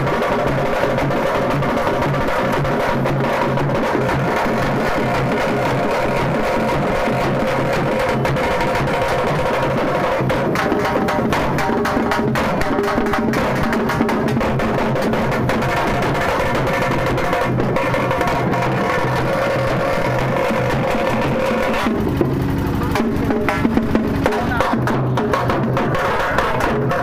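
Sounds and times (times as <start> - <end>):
bass drum: 0.0 - 27.0
side drum beaten fast: 0.0 - 27.0.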